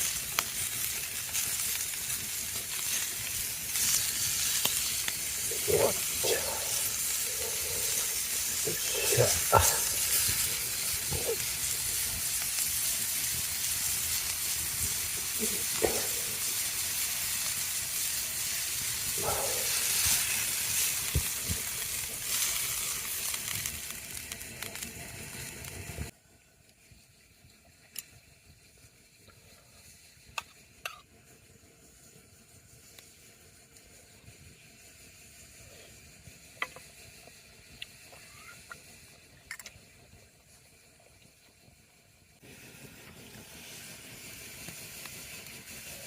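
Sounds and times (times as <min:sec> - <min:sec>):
food sizzling in a pan: 0:00.0 - 0:46.0.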